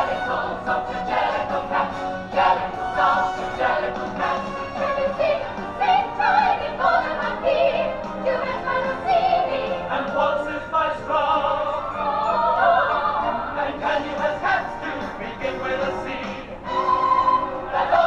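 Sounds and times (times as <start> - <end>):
orchestral backing: 0.0 - 18.0
voices singing held notes: 0.0 - 18.0.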